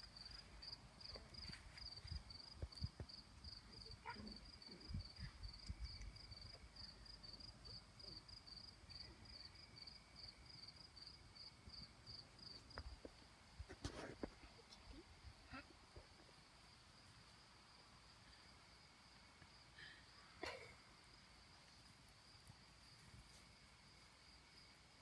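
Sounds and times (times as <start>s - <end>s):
cricket chirping: 0.0s - 13.9s, 14.5s - 25.0s.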